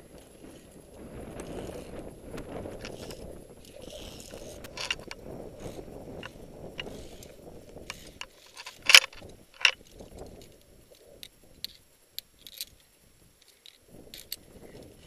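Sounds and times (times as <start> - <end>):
metal climbing gear clinking: 0.2 - 15.0.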